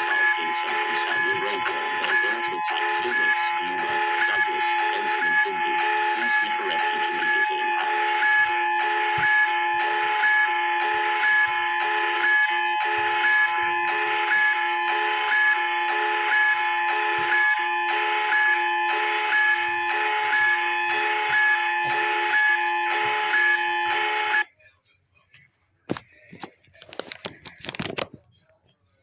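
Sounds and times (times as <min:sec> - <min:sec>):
alarm beeping: 0:00.0 - 0:24.5
steady alarm tones: 0:00.0 - 0:24.6.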